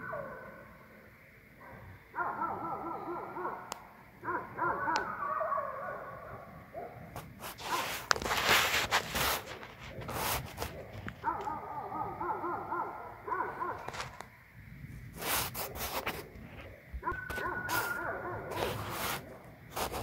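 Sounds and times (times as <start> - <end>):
coyotes yipping and howling: 0.0 - 20.0.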